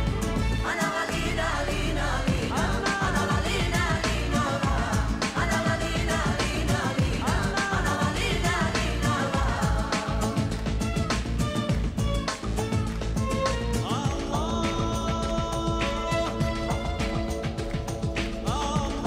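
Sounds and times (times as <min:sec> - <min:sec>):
dance beat: 0:00.0 - 0:19.0
pop song with singing: 0:00.0 - 0:19.0.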